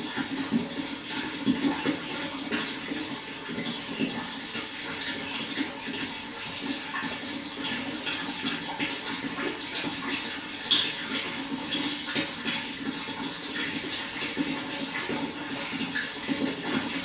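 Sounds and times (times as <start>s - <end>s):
water flowing and splashing: 0.0s - 17.0s.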